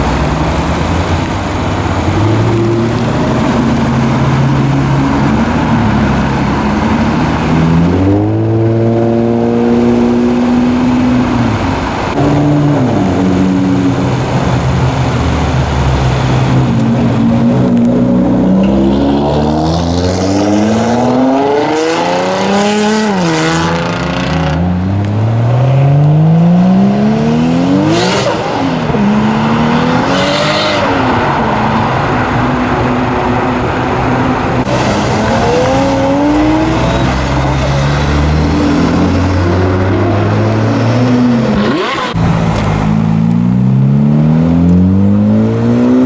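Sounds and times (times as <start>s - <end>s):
cars accelerating hard: 0.0s - 46.0s.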